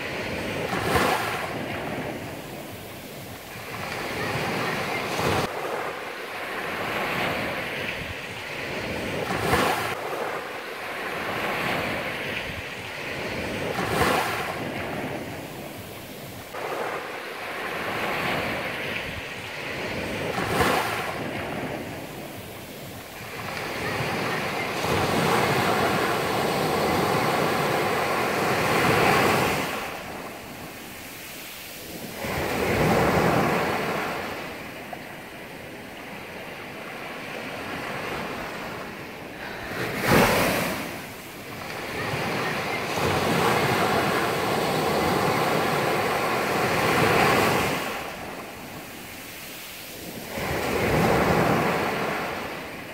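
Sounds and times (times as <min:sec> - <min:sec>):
small waves breaking on shore: 0:00.0 - 0:52.9.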